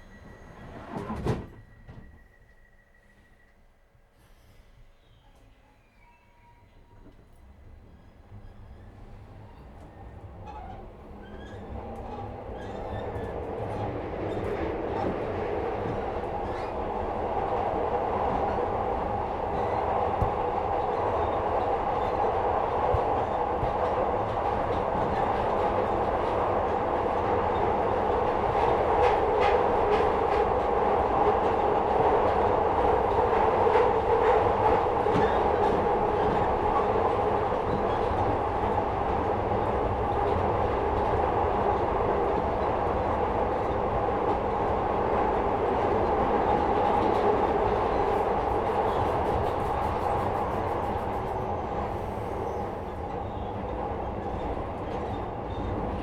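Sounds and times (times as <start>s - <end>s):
train car rumble and hum: 0.0s - 3.6s, 6.8s - 56.0s.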